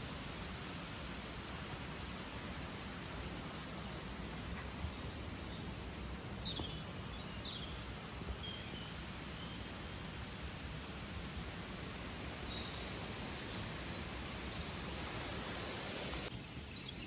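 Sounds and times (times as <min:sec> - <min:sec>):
falling water rushing: 0:00.0 - 0:16.3.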